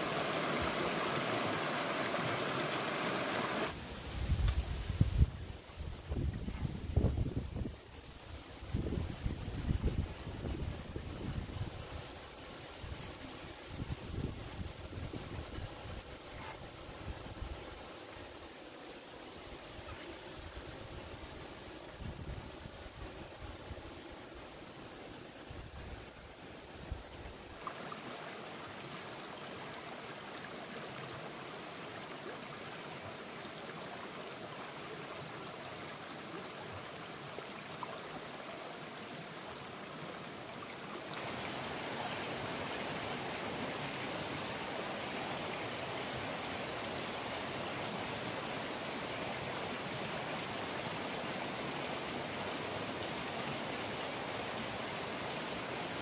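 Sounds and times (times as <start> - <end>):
forest stream running: 0.0 - 56.0.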